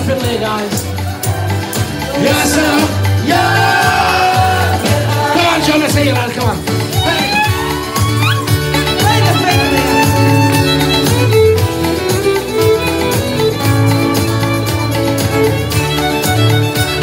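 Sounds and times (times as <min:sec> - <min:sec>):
drum kit beat: 0:00.0 - 0:17.0
live rock band: 0:00.0 - 0:17.0.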